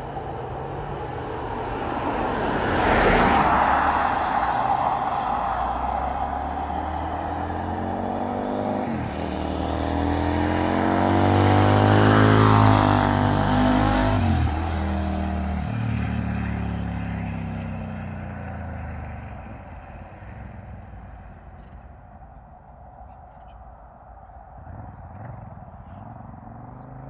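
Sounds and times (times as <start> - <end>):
motorcycle riding past: 0.0 - 22.0, 24.6 - 27.0.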